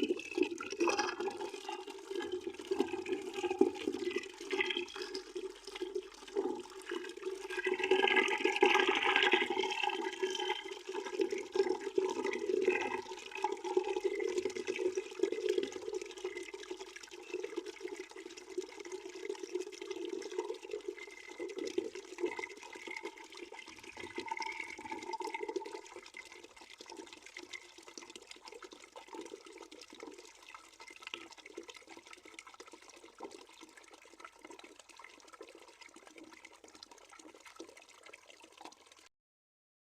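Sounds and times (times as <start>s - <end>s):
water pouring into a bucket: 0.0s - 39.1s.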